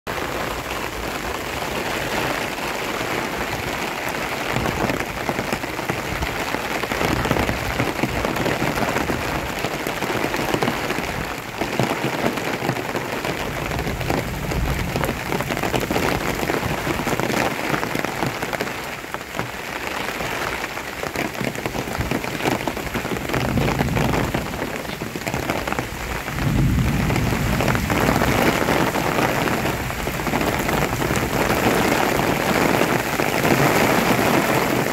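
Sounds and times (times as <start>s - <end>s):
heavy rain on leaves: 0.1s - 34.9s.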